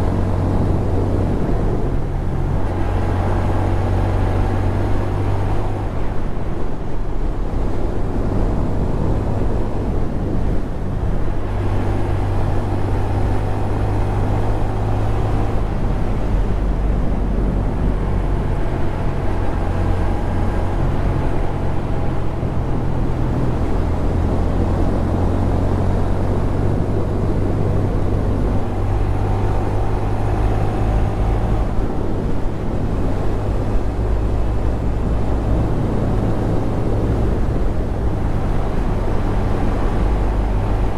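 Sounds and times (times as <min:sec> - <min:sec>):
rushing wind noise: 0:00.0 - 0:40.9.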